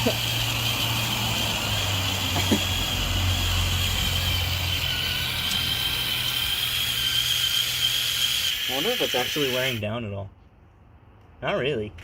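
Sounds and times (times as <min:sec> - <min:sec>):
toy car motor whining: 0:00.0 - 0:09.9.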